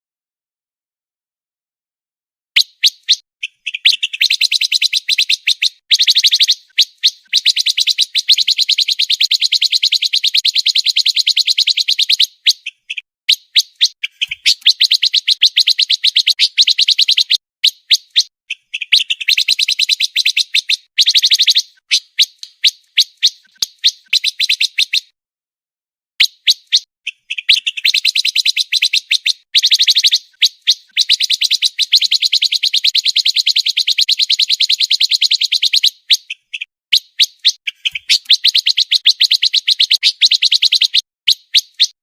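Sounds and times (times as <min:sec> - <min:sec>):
songbird singing rattling notes: 0:02.6 - 0:25.1, 0:26.2 - 0:42.0.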